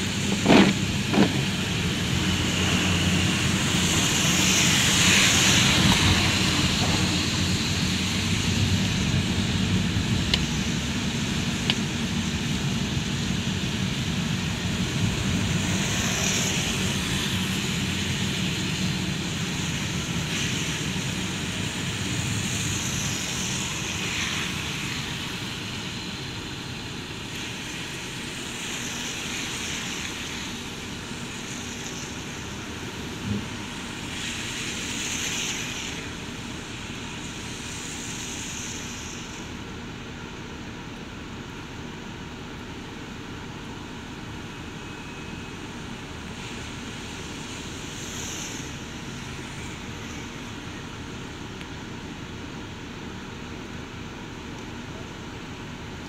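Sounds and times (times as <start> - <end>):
engine and road hum: 0.0 - 56.0
tyres hissing on wet pavement: 0.0 - 56.0.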